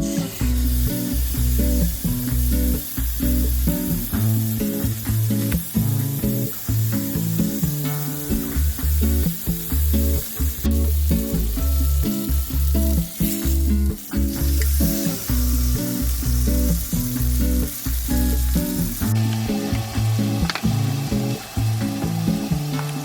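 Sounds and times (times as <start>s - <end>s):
background music with bass line: 0.0s - 23.0s
food sizzling on a grill: 0.0s - 23.0s.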